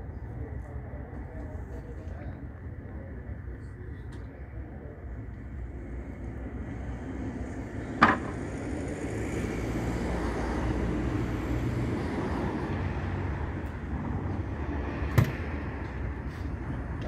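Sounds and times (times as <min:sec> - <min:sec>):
distant engine rumble: 0:00.0 - 0:17.0.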